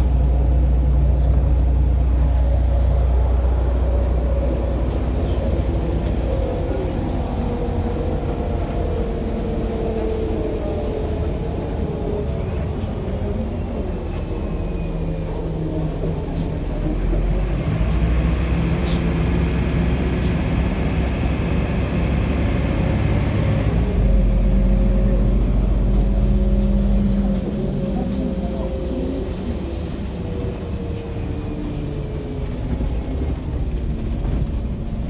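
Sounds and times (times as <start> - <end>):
bus diesel engine humming: 0.0 - 35.0
road noise: 0.0 - 35.0.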